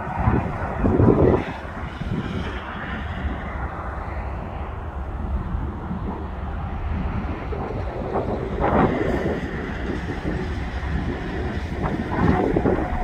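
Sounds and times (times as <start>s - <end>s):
distant freight train rumble: 0.0s - 13.0s.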